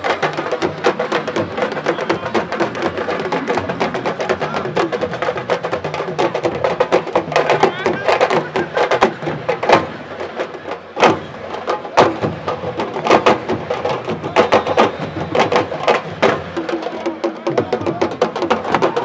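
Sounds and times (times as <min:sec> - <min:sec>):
drums played with stick and hand: 0:00.0 - 0:19.0
voices: 0:00.0 - 0:19.0.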